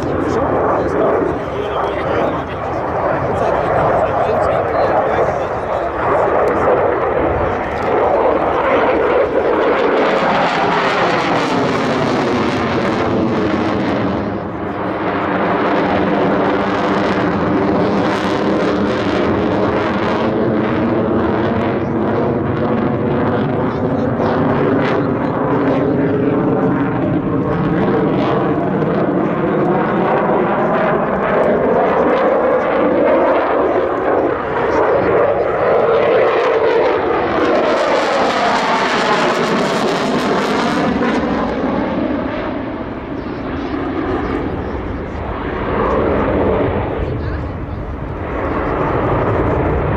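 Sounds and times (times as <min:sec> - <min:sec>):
aircraft engine running: 0:00.0 - 0:49.9.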